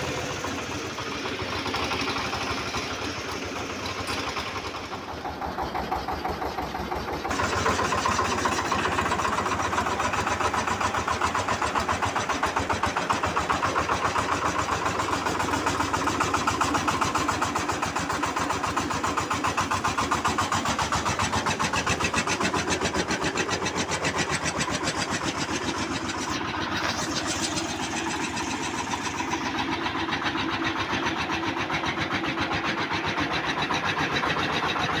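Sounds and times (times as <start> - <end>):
diesel engine chugging: 0.0 - 35.0.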